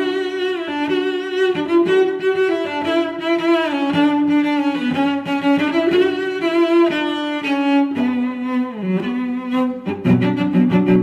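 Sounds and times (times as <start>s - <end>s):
bowed strings playing held notes: 0.0s - 11.0s.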